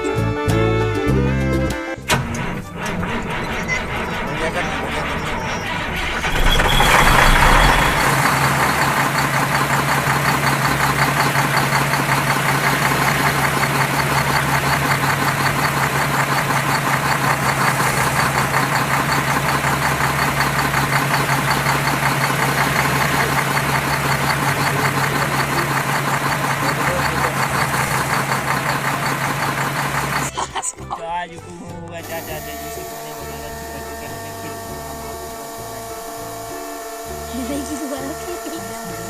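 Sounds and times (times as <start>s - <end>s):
engine idling with knocking: 1.0s - 39.0s.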